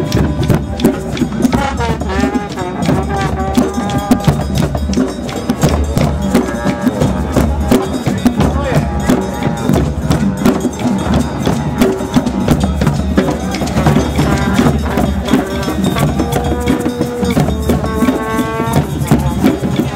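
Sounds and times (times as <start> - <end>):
hand drums playing fast rhythm: 0.0 - 19.9.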